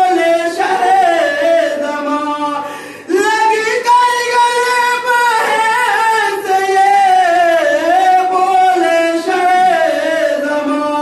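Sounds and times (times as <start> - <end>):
man singing a mourning lament: 0.0 - 11.0.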